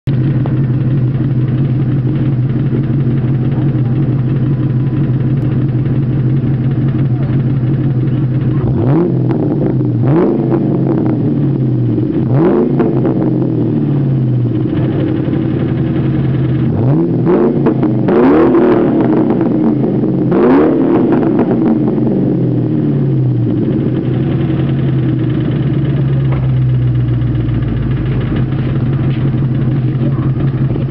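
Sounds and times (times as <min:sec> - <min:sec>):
car engine idling with knock: 0:00.1 - 0:30.9.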